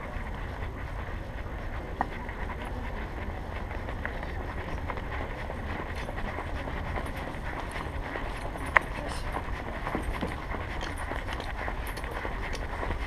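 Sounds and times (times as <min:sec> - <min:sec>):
camera rumble and rustle from walking: 0:00.0 - 0:13.0.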